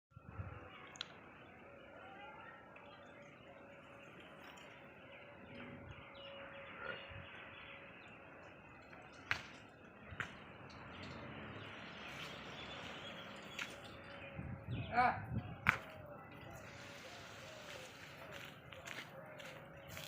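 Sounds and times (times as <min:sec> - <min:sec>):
birds chirping: 0:00.2 - 0:20.0.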